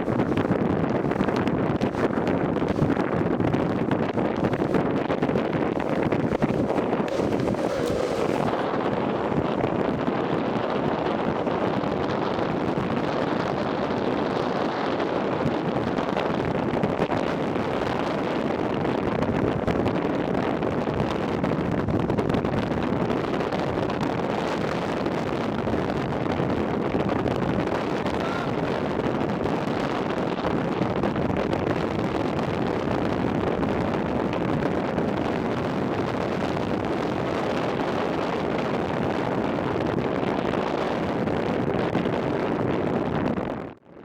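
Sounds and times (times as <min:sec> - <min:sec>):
longboard wheels rolling on asphalt: 0:00.0 - 0:42.4
wind over microphone: 0:00.0 - 0:44.0.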